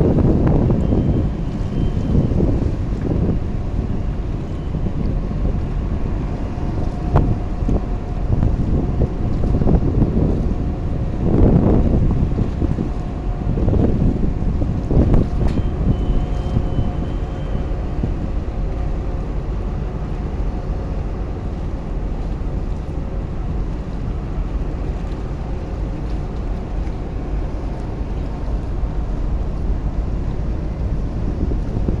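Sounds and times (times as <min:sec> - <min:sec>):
boat engine rumbling: 0:00.0 - 0:32.0
wind buffeting microphone: 0:00.0 - 0:32.0.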